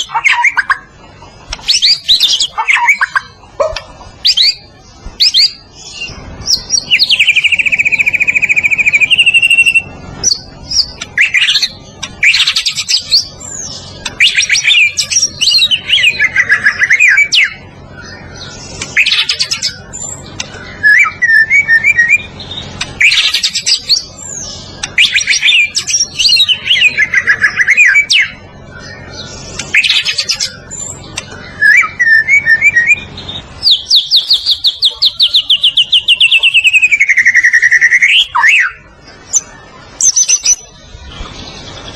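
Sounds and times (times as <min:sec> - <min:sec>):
bird singing: 0:00.0 - 0:41.9.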